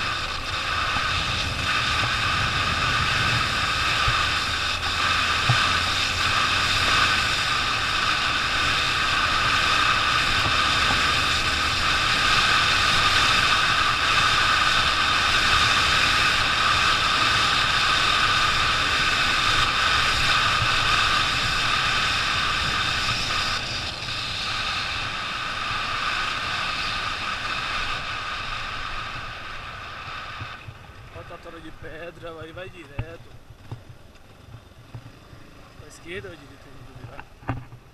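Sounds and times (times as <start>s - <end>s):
motorcycle engine hum: 0.0s - 37.9s
wind and road noise: 0.0s - 37.9s.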